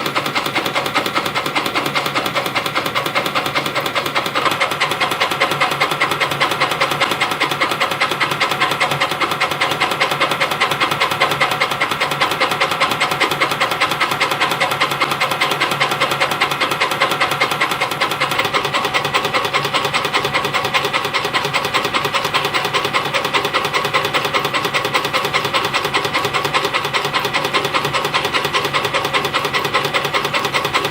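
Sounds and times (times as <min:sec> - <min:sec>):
spring coiling machine running: 0:00.0 - 0:30.9.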